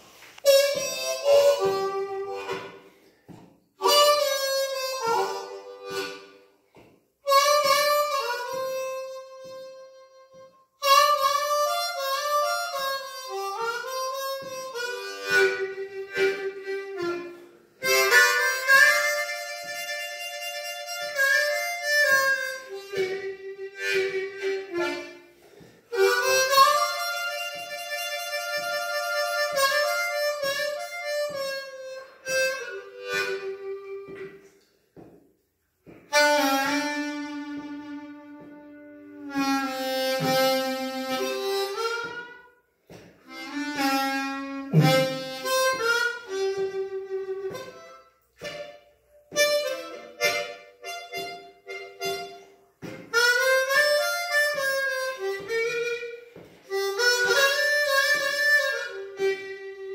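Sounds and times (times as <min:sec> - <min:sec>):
harmonica playing blues: 0:00.0 - 0:35.1, 0:35.8 - 0:59.9.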